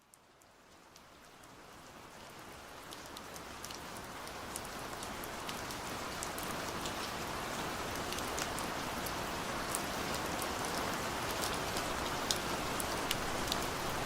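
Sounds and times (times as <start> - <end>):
heavy rain pouring: 2.3 - 14.0.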